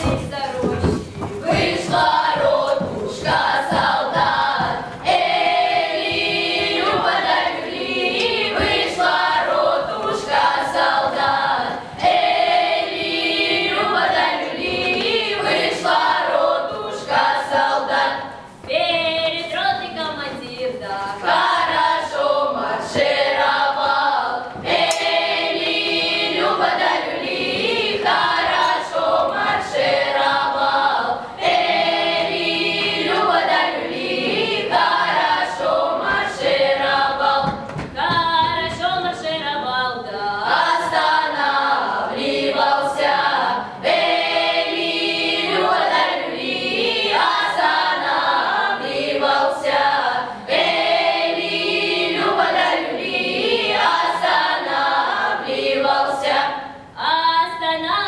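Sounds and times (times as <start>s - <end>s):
children's choir singing unaccompanied: 0.0s - 58.0s.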